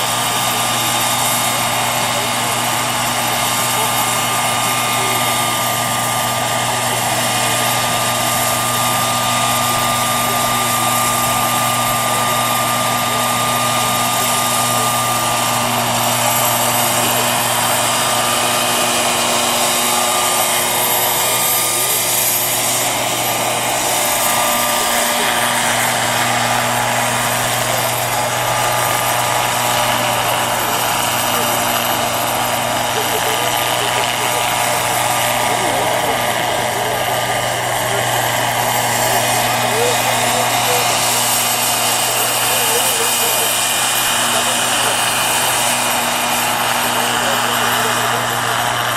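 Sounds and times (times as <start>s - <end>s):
helicopter rotor hum: 0.0s - 48.9s
model helicopter turbine whine: 0.0s - 48.9s.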